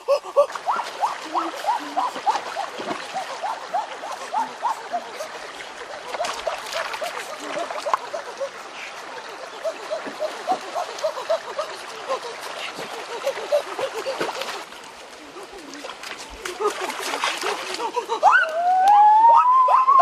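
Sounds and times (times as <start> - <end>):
river water gurgling: 0.0 - 20.0.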